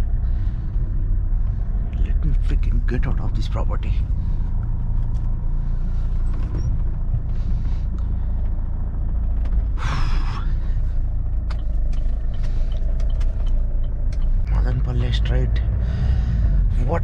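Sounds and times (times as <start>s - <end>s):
car interior engine rumble: 0.0s - 17.0s.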